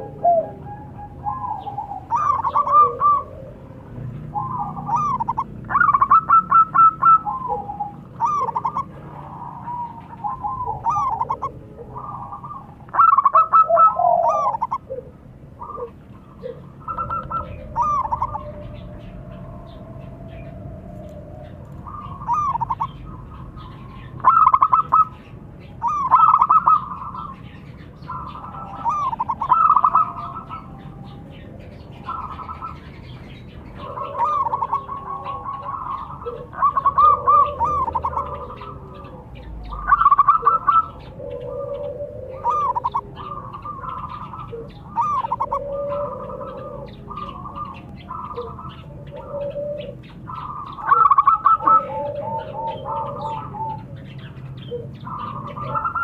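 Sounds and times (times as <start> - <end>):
bird trilling: 0.0 - 56.0
doves cooing: 0.0 - 56.0.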